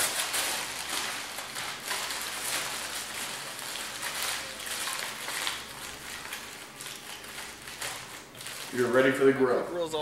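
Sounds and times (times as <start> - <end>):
aluminium foil crinkling: 0.0 - 9.4.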